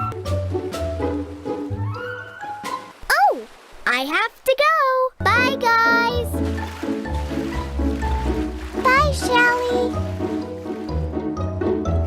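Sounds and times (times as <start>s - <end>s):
cheerful cartoon background music: 0.0s - 3.0s, 4.7s - 12.0s.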